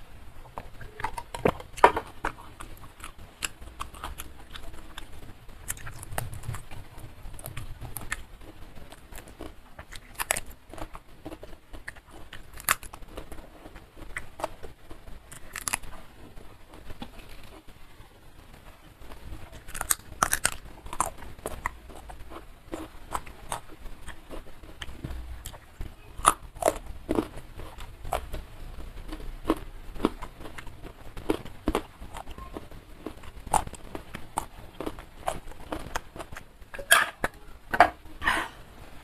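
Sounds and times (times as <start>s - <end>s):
person chewing food: 0.4s - 17.7s, 19.0s - 38.6s.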